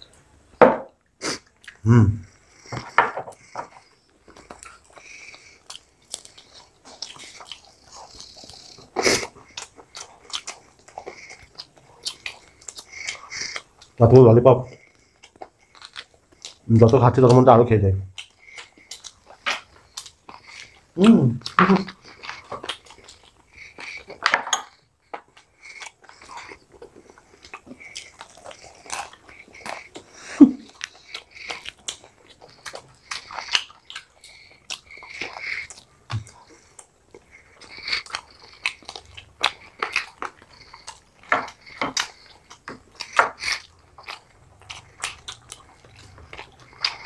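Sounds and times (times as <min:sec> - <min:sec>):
wet smacking chewing: 0:01.0 - 0:47.0.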